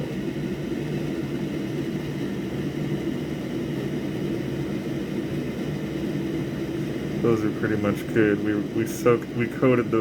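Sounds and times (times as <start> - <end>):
mechanical fan hum: 0.0 - 10.0.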